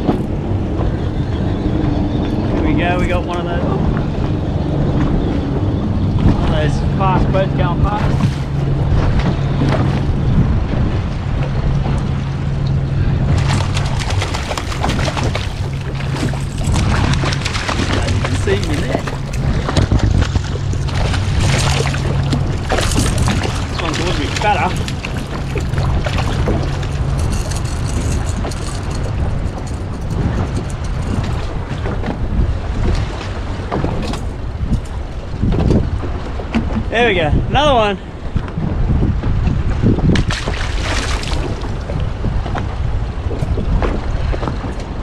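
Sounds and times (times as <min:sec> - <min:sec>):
boat engine running: 0:00.0 - 0:45.0
wind and water noise: 0:00.0 - 0:45.0.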